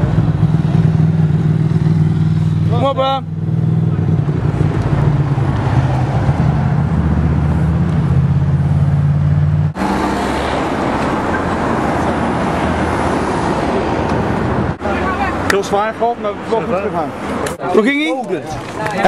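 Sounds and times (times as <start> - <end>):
vehicle engine droning: 0.0 - 17.6
road traffic noise: 0.0 - 19.0.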